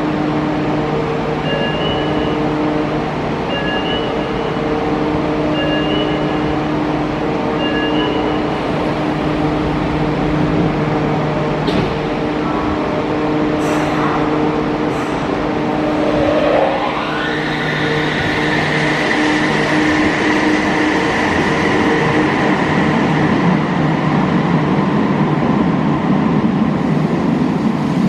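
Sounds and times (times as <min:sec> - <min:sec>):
train equipment humming: 0:00.0 - 0:28.0.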